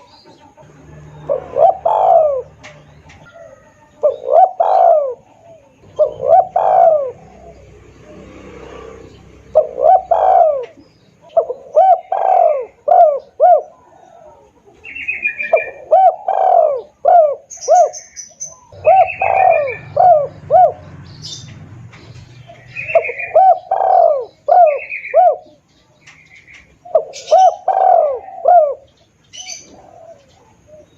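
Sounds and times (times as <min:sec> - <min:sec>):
dove cooing: 0:00.0 - 0:30.9.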